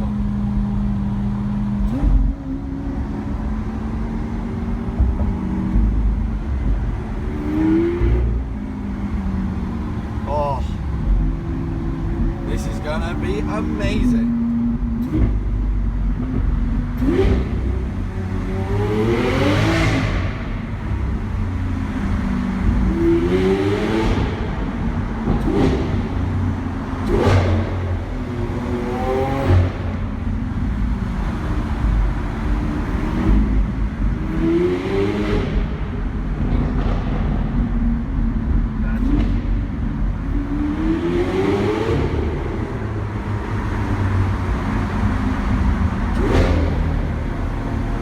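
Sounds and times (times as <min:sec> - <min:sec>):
car engine accelerating in tunnel: 0:00.0 - 0:48.0.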